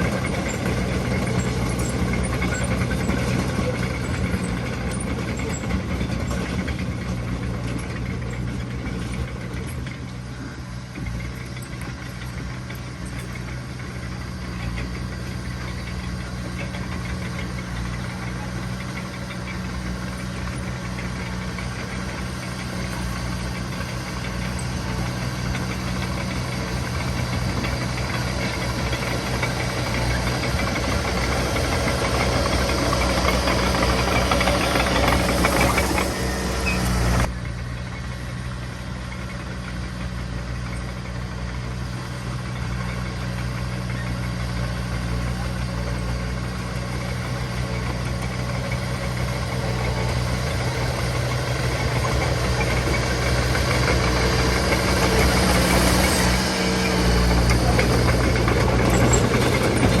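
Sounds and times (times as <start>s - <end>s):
heavy machinery diesel engine: 0.0s - 60.0s.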